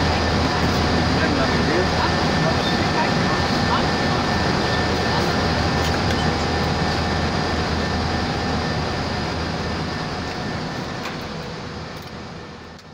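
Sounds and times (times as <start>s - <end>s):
airliner cockpit engine noise: 0.0s - 12.9s.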